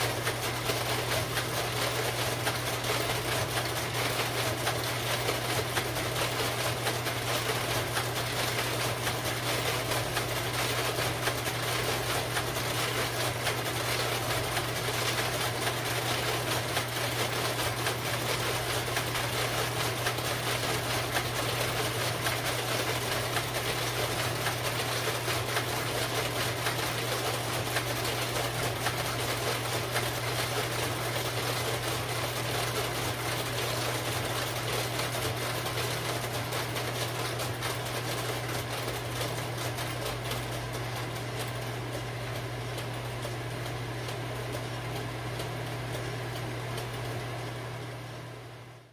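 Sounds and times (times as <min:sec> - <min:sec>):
projector cooling fans humming: 0:00.0 - 0:48.9.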